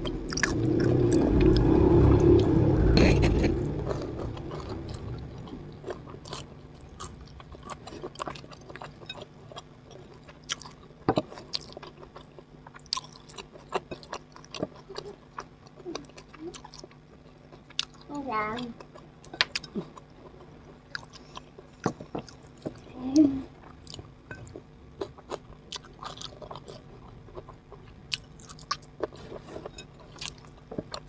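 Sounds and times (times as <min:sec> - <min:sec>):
close chewing and eating: 0:00.0 - 0:31.0.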